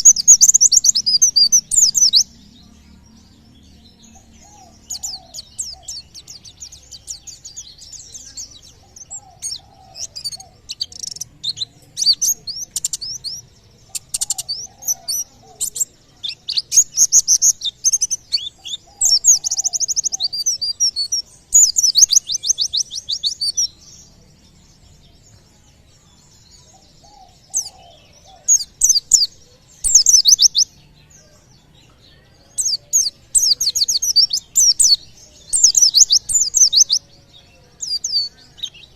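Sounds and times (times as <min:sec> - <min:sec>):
bird chirping and trilling: 0:00.0 - 0:25.4, 0:26.2 - 0:30.8, 0:32.5 - 0:38.9.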